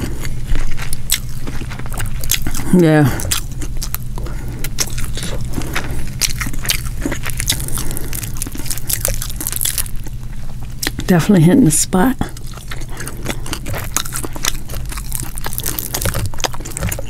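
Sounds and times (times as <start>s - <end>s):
close chewing and mouth sounds: 0.0s - 17.0s
low hum: 0.0s - 17.0s.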